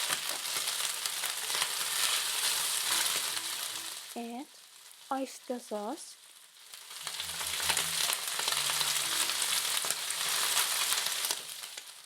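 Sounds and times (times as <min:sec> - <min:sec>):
meat sizzling in a stir-fry pan: 0:00.0 - 0:12.0.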